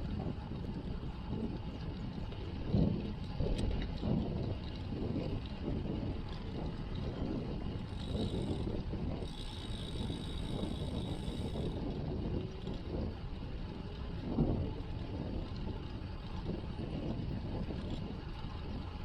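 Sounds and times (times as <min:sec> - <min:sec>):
road and tyre noise: 0:00.0 - 0:19.0
wind rumbling on microphone: 0:00.0 - 0:19.0.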